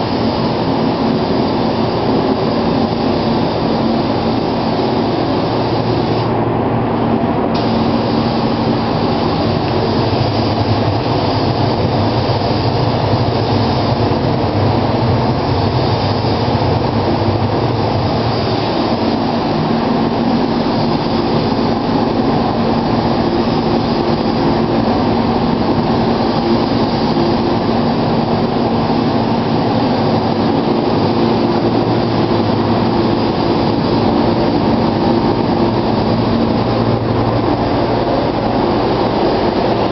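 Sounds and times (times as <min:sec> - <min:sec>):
spray gun spraying: 0:00.0 - 0:39.9
steady low hum: 0:00.0 - 0:39.9
ventilation fans: 0:00.0 - 0:39.9.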